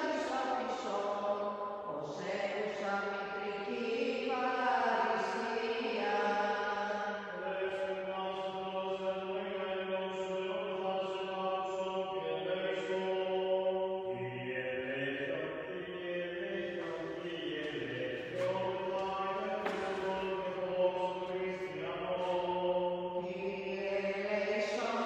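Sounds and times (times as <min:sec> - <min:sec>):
slow chanted melody: 0:00.0 - 0:25.0.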